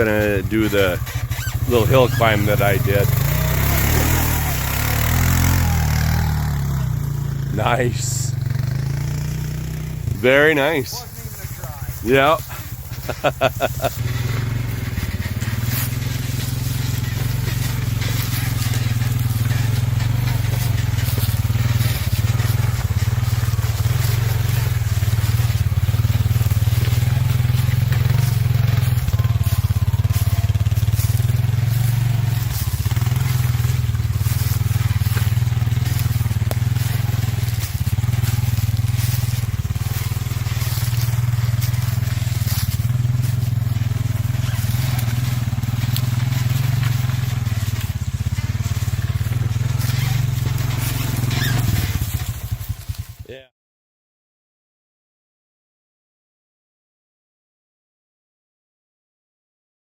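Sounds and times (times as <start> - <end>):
small crackles and ticks: 0.0 - 6.9, 10.0 - 53.3
atv engine running: 0.0 - 53.4.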